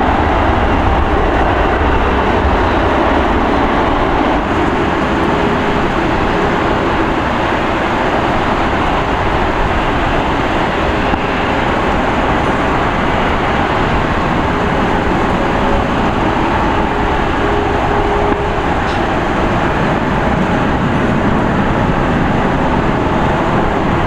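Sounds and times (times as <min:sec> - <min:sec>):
faint jet engine whines: 0:00.0 - 0:24.0
jet engines roaring at takeoff: 0:00.0 - 0:24.0.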